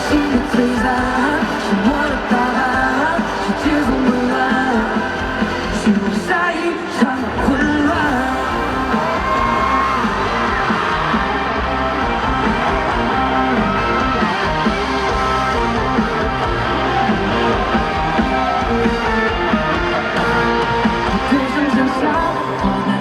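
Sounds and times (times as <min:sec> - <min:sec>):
electric guitar: 0:00.0 - 0:23.0
live pop-rock band playing: 0:00.0 - 0:23.0.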